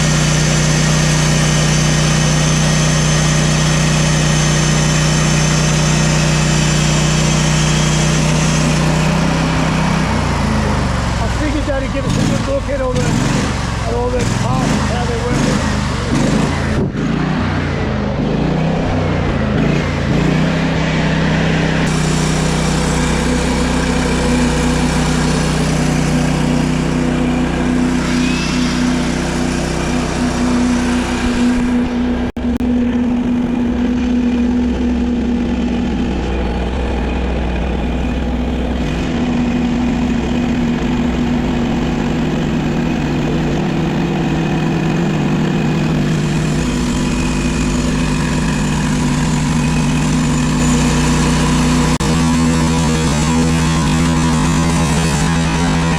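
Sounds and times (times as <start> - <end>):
sawmill engine running: 0.0 - 55.9.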